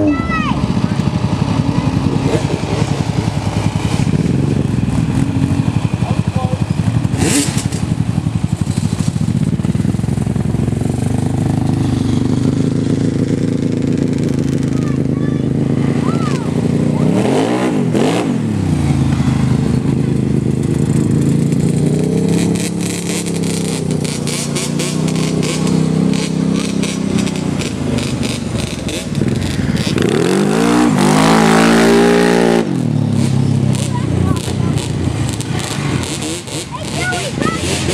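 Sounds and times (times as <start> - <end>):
atv engine running: 0.0 - 37.9.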